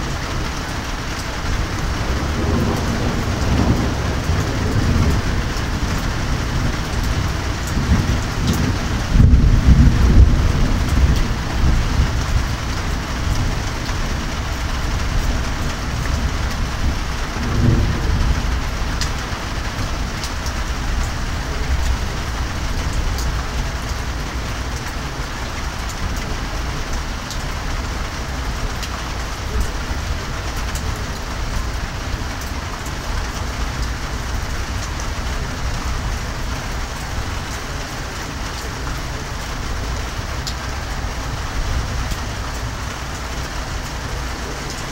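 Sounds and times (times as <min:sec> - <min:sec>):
heavy rain falling: 0:00.0 - 0:44.9
low thunder rumbles: 0:00.0 - 0:44.9.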